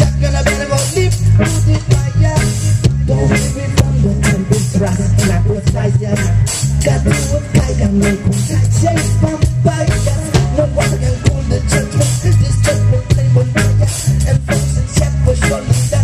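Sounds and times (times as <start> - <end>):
bass guitar line: 0.0 - 16.0
drum kit: 0.0 - 16.0
electric guitar: 0.0 - 16.0
keyboard: 0.0 - 16.0.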